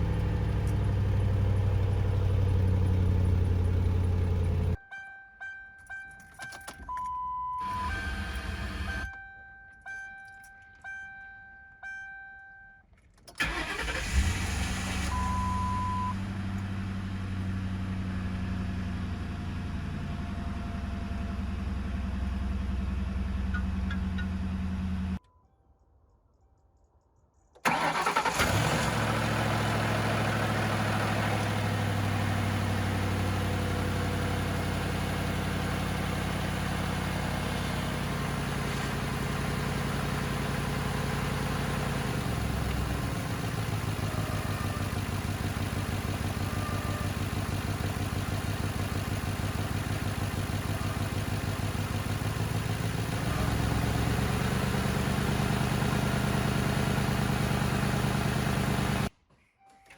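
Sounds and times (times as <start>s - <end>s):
car engine starting and idling: 0.0s - 4.8s, 7.6s - 9.2s, 13.2s - 25.2s, 27.6s - 59.1s.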